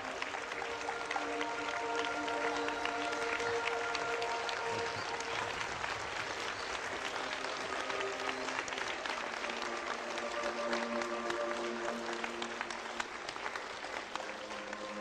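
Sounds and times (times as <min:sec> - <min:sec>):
children applauding: 0:00.0 - 0:15.0.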